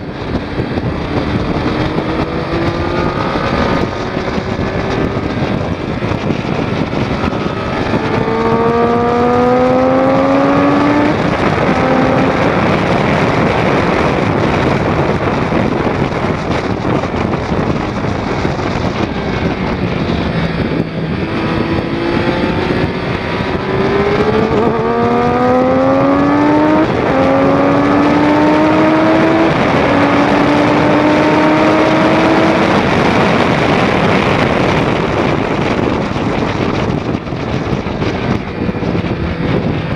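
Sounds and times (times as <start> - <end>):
motorcycle engine accelerating: 0.0 - 39.9
wind rush over microphone: 0.0 - 39.9.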